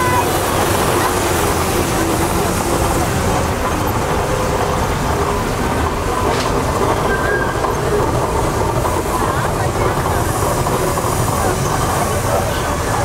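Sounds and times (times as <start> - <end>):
steam engines rumbling past: 0.0 - 13.0.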